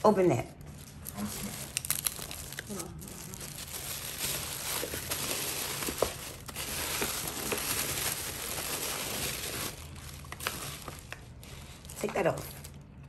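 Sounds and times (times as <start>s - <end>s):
wrapping paper crinkling: 0.5s - 12.8s.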